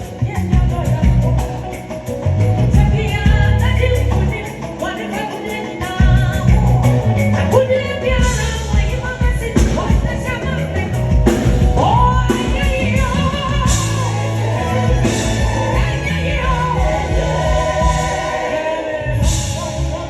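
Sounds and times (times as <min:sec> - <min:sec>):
live band playing: 0:00.0 - 0:20.0.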